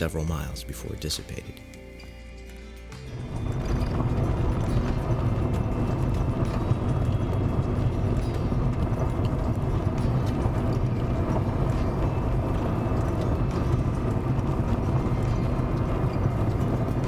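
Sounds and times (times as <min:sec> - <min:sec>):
vehicle road and engine rumble: 0:03.1 - 0:17.0.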